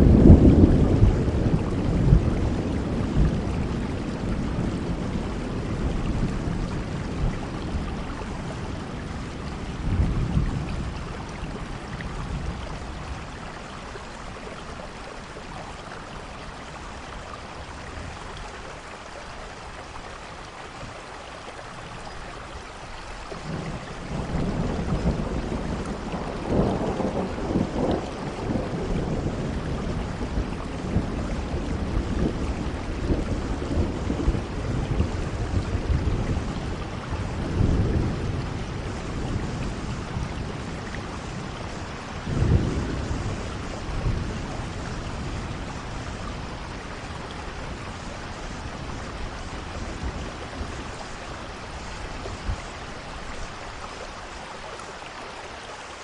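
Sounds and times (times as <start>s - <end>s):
low rolls of thunder: 0.0s - 18.8s, 21.7s - 54.4s
steady rainfall: 0.0s - 56.0s.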